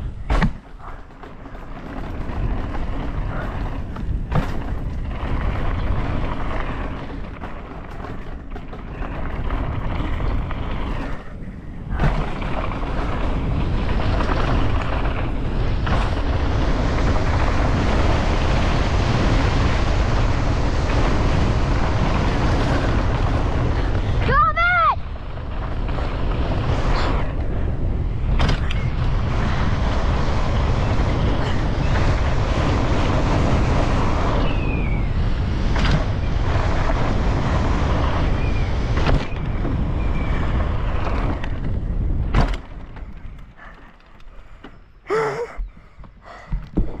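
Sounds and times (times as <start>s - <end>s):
bike tyres rolling over dirt: 0.0s - 47.0s
wind buffeting microphone: 0.0s - 47.0s.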